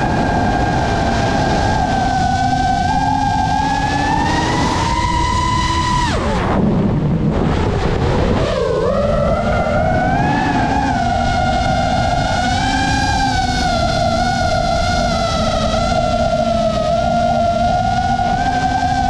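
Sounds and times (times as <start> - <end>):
drone motors whining: 0.0 - 19.0
propeller rush: 0.0 - 19.0.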